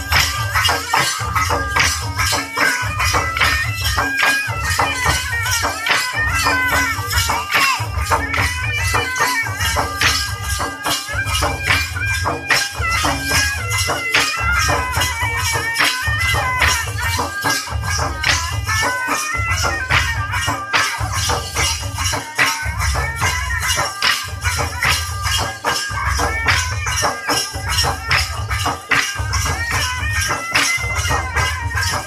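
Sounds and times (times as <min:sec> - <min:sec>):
rattling clicking percussion: 0:00.0 - 0:32.0.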